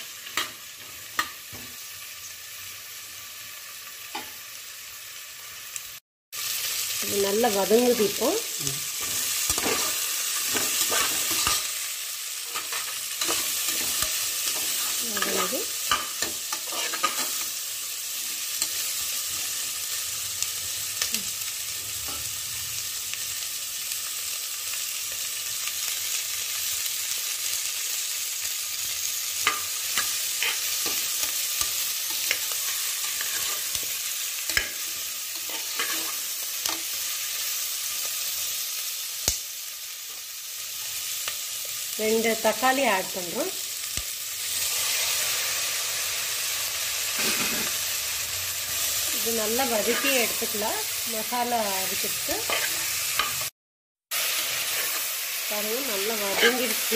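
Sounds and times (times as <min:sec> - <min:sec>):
onions sizzling in hot oil: 0:00.0 - 0:56.9.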